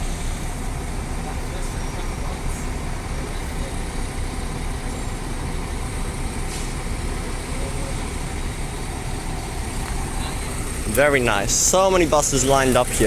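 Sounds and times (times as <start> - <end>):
buses idling: 0.0 - 13.0
traffic noise: 0.0 - 13.0.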